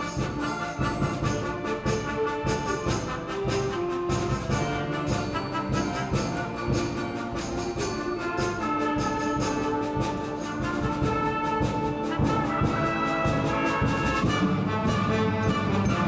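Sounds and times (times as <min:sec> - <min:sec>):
concert band playing long chords: 0:00.0 - 0:16.0.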